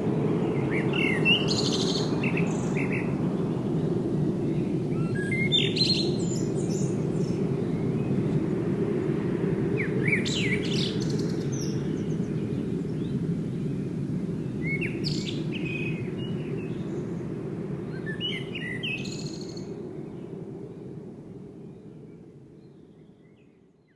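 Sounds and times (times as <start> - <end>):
songbirds chirping: 0.0 - 20.5.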